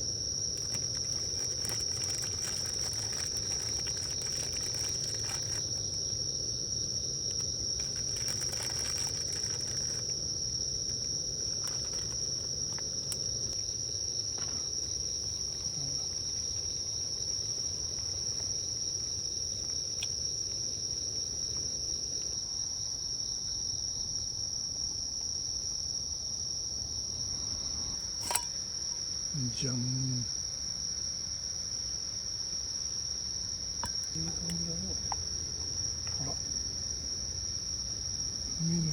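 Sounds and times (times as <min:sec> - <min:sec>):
insect high-pitched trill: 0:00.0 - 0:24.5, 0:25.5 - 0:38.9.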